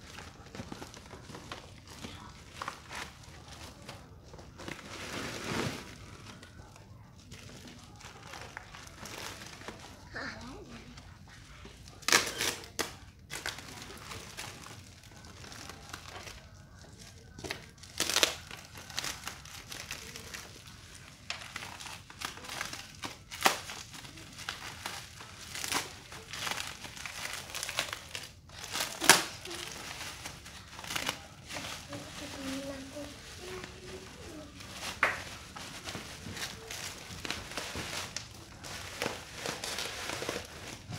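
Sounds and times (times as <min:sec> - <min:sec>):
plastic wrapping crinkling: 0:00.0 - 0:40.9.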